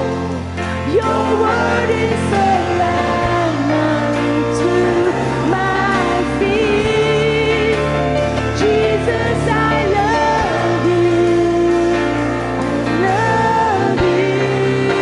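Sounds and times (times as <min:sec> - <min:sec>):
band accompaniment with bass: 0:00.0 - 0:15.0
person singing worship song: 0:00.0 - 0:15.0.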